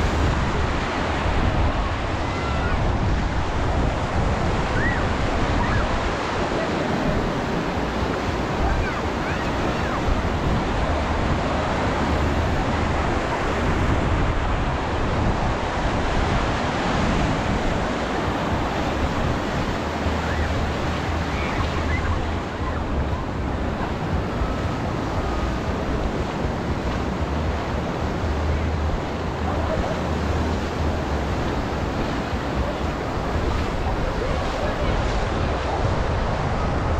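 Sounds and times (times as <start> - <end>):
waves washing onto beach: 0.0 - 36.9
wind noise on microphone: 0.0 - 36.9.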